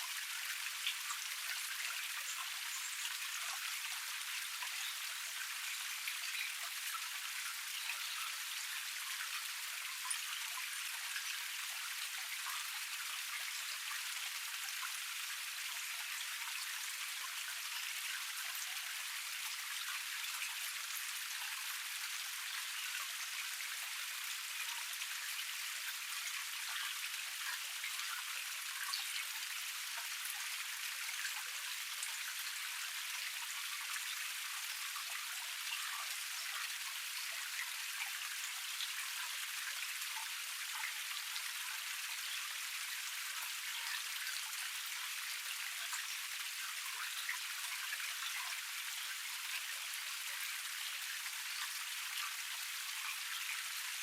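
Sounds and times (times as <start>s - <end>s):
water running over rocks: 0.0s - 54.0s.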